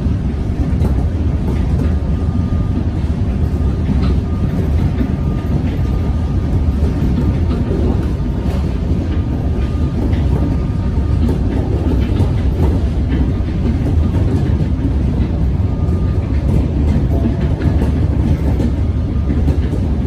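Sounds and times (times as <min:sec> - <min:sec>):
train rumbling at speed: 0:00.0 - 0:20.0
wheels clicking over rails: 0:00.0 - 0:20.0.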